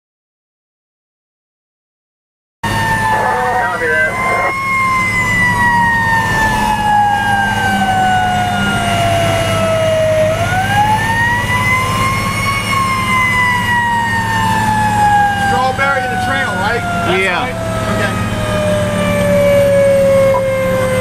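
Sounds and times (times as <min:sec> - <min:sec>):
fire engine siren wailing: 0:02.6 - 0:21.0
fire truck engine drone: 0:02.6 - 0:21.0.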